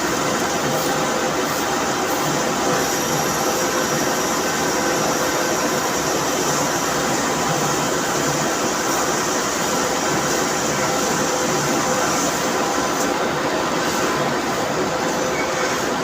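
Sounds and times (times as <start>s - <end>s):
machine hum and whir: 0.0s - 16.0s.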